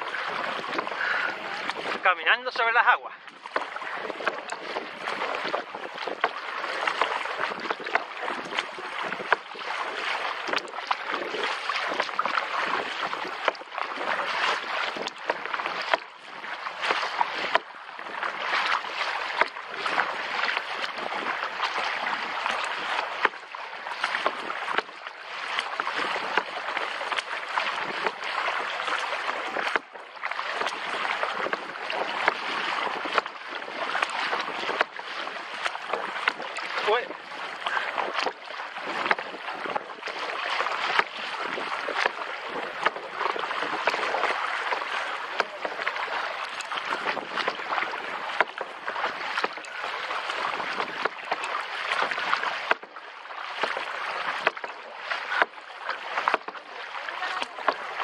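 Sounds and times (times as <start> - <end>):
paddle splashes and knocks: 0.0 - 58.0
water splashing around kayak: 0.0 - 58.0.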